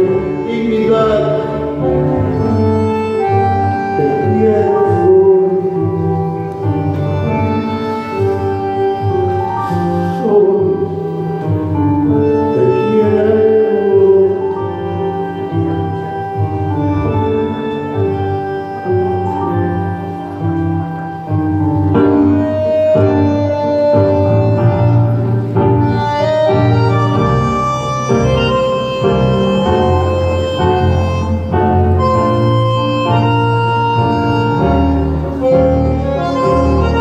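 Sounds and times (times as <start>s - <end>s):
slow music with held chords: 0.0s - 37.0s.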